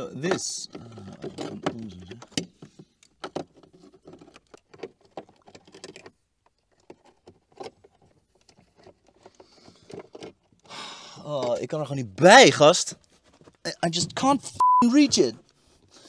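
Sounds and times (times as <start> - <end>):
hands clicking and tapping wiring: 0.0 - 14.4.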